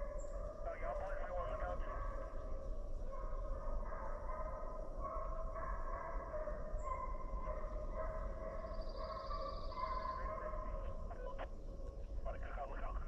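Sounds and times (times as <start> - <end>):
hounds baying: 0.0 - 12.1.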